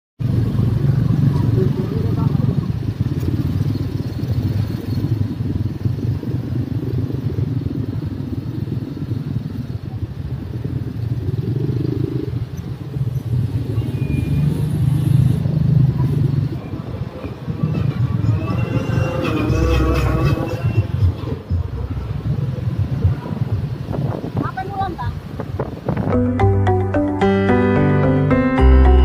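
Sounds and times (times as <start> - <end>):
road noise: 0.2 - 29.0.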